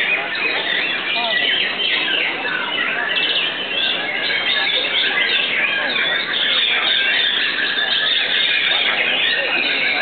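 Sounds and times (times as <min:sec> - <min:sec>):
chorus of birds singing: 0:00.0 - 0:10.0.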